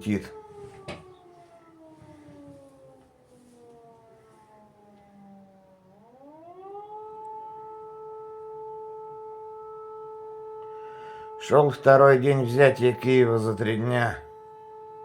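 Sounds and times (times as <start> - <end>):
air-raid siren wailing: 0.0 - 15.0.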